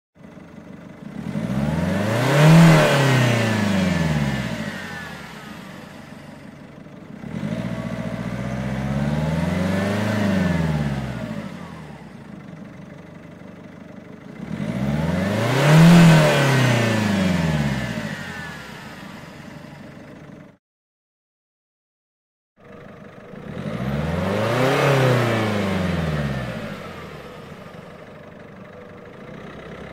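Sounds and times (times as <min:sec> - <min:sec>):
car engine idling and revving: 0:00.2 - 0:20.6, 0:22.6 - 0:29.9.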